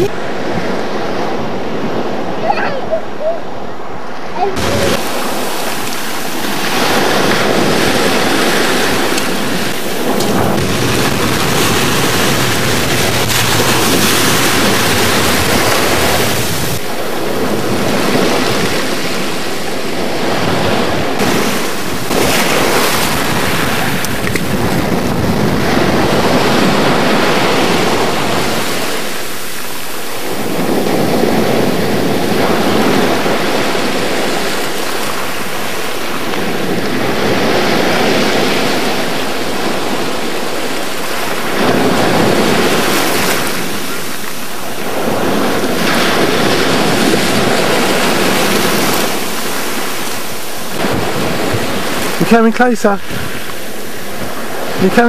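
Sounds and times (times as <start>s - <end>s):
surf breaking on a beach: 0.0s - 55.0s
wind buffeting the microphone: 0.0s - 55.0s.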